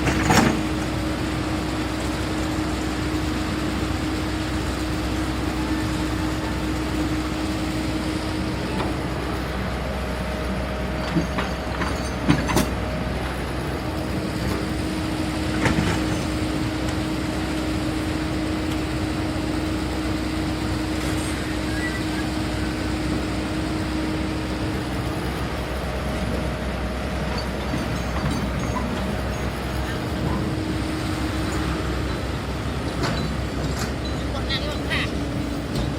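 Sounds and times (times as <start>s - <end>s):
constant whine: 0.0s - 35.9s
excavator engine running: 0.0s - 35.9s.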